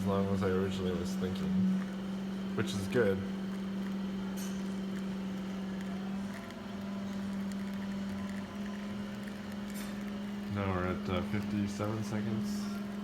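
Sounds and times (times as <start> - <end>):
espresso machine pump humming: 0.0 - 13.0.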